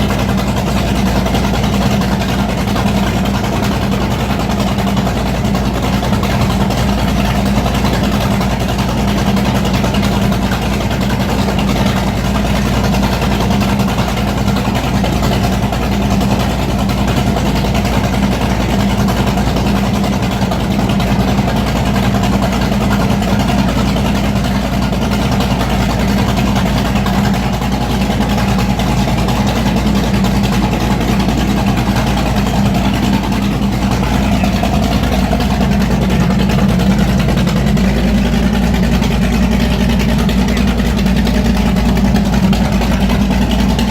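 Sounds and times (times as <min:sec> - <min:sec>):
boat engine idling: 0:00.0 - 0:43.9.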